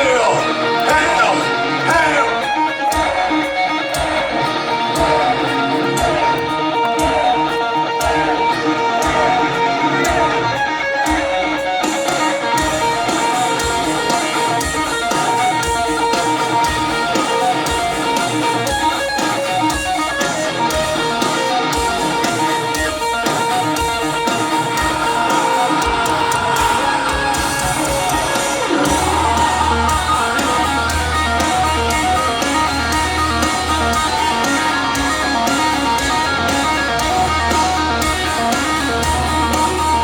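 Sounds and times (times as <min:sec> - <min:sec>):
electric guitars sustained notes: 0:00.0 - 0:40.0.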